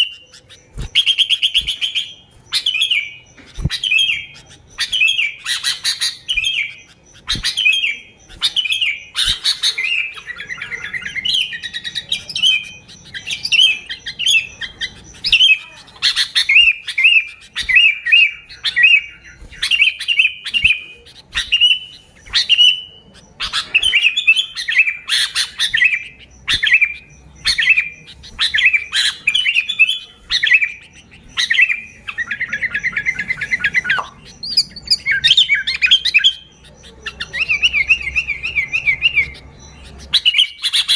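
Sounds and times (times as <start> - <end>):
bulbul calling: 0.0 - 40.9.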